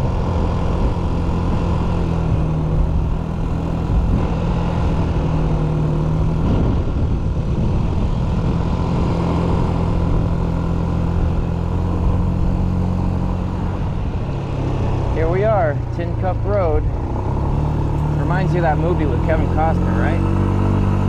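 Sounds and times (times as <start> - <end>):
wind and road noise: 0.0 - 21.0.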